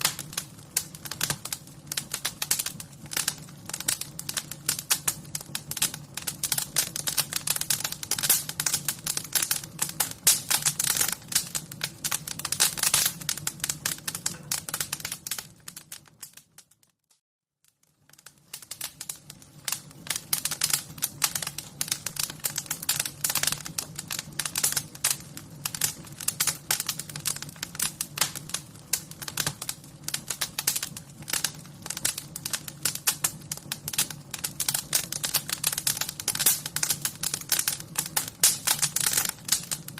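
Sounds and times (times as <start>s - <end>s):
wood fire crackling: 0.0s - 16.9s, 17.6s - 39.9s.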